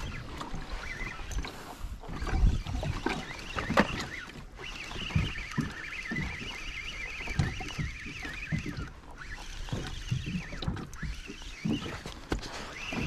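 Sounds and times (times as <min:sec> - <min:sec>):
water slapping kayak hull: 0:00.0 - 0:13.0
wavering high whine: 0:00.0 - 0:13.0.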